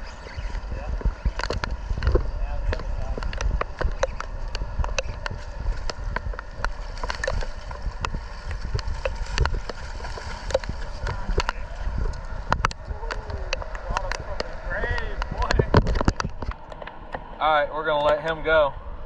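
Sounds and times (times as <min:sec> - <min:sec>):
drops ticking near microphone: 0:00.0 - 0:17.3
low rumble of wind and water: 0:00.0 - 0:19.0.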